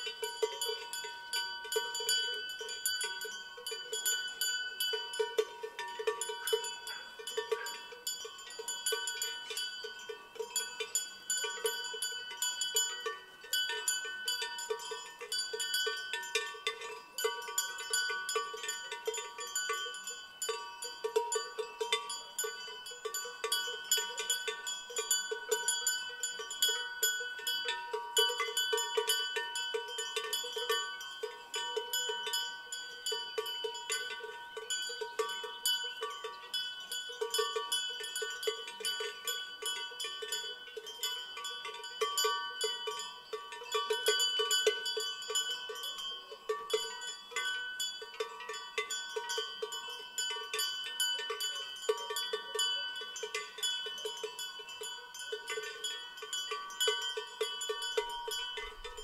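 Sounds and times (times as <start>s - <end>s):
cowbells clanking: 0.0s - 59.0s.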